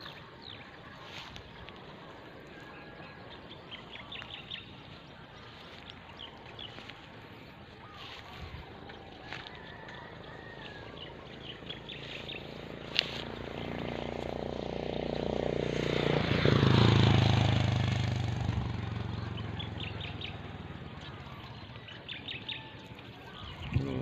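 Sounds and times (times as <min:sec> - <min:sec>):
vehicle engine passing by: 0:00.0 - 0:22.9.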